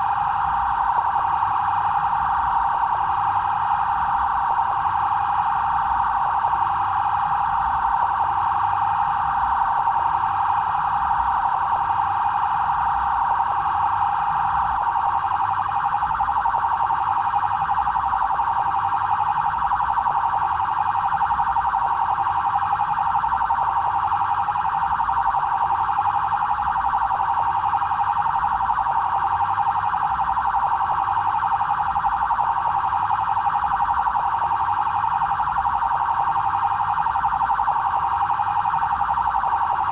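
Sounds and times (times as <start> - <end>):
police siren fluttering tone: 0.0 - 39.9.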